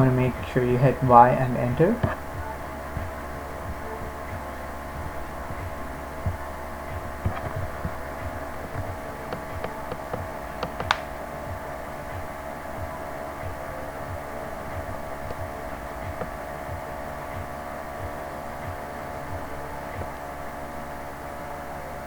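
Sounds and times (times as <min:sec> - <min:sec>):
soft low thumps: 0:00.0 - 0:20.4
low electrical hum: 0:00.0 - 0:22.0.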